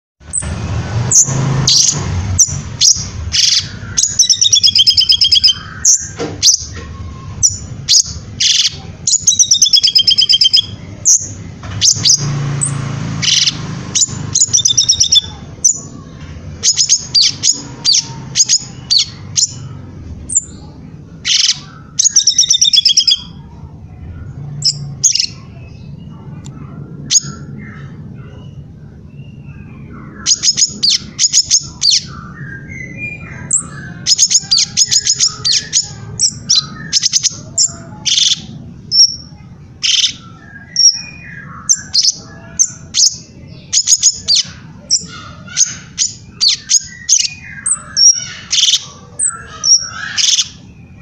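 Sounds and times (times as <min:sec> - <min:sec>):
bird chirping and trilling: 0:00.2 - 0:51.0.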